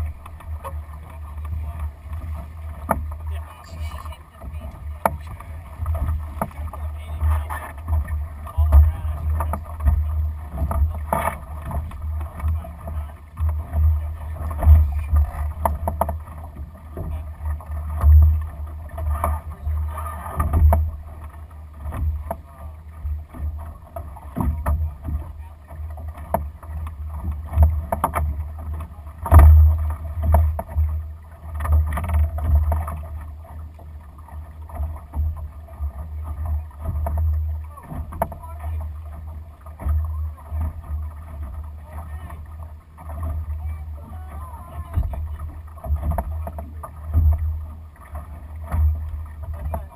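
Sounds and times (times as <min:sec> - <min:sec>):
water slapping against hull: 0:00.0 - 0:49.9.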